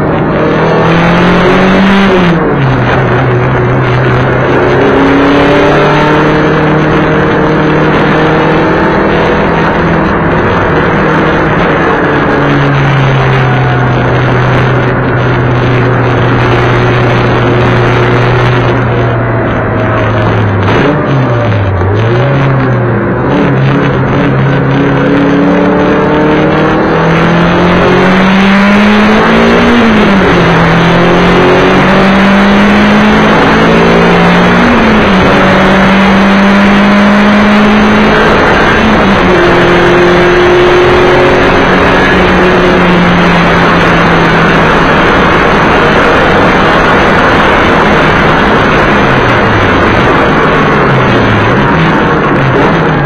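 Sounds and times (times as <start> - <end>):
race car engine accelerating: 0.0 - 53.0
road and wind noise: 0.0 - 53.0.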